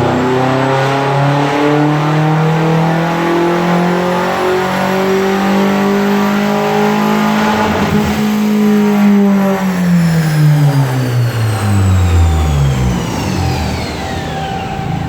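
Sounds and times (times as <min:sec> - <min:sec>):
car engine revving under load: 0:00.0 - 0:15.0.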